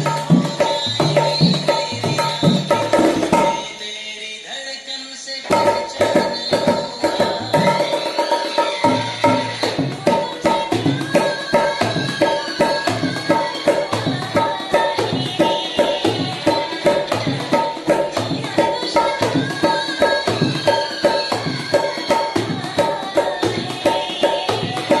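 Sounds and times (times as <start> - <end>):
hand drum playing fast rhythm: 0.0 - 3.6, 5.5 - 25.0.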